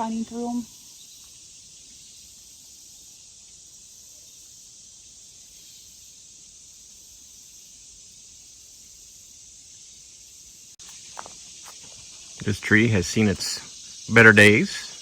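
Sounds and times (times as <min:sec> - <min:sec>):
chorus of insects: 0:00.0 - 0:15.0.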